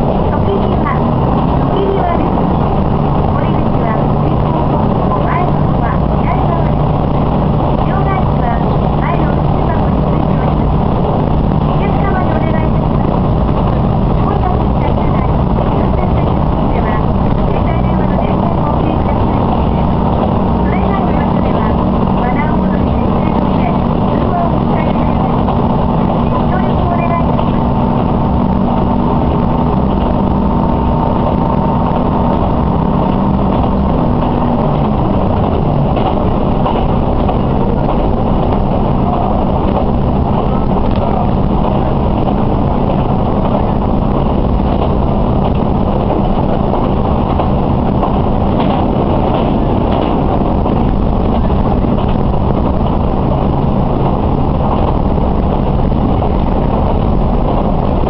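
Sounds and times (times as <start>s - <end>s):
diesel engine drone: 0.0s - 58.0s
train rolling noise: 0.0s - 58.0s.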